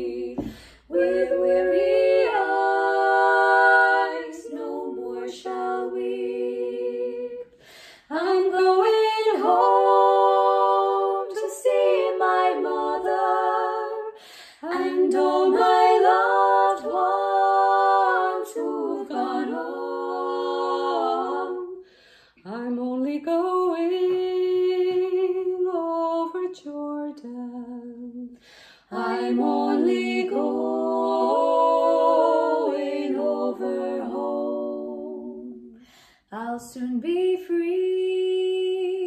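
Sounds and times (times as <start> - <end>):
women singing in harmony: 0.0 - 39.0.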